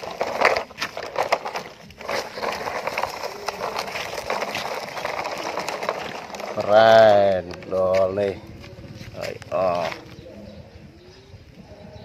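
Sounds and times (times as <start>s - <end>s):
toy truck rattling on gravel: 0.0s - 10.2s.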